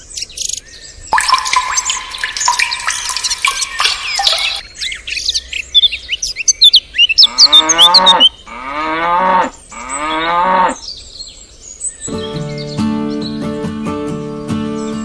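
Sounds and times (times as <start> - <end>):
birds chirping: 0.0 - 8.5, 10.9 - 15.0.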